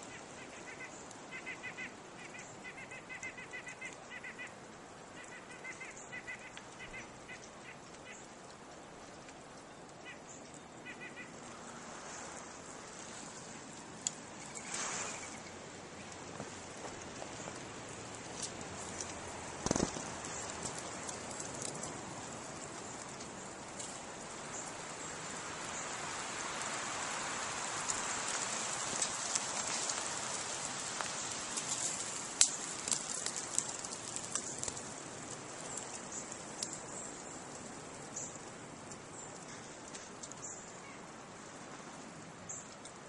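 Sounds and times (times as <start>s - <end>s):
snow dripping from trees: 0.0s - 43.0s.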